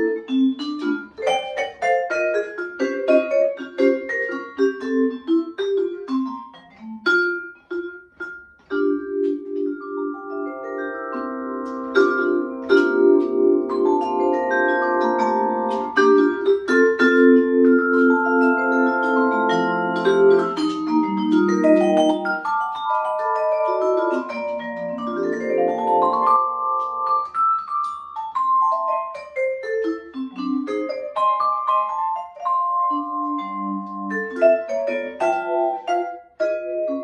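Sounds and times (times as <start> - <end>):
solo jazz vibraphone: 0.0 - 37.0.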